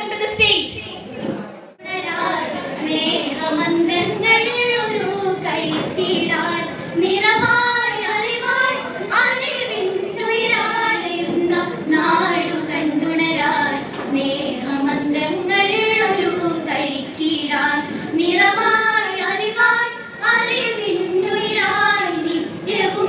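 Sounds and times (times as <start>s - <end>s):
girl singing melody: 1.8s - 23.0s.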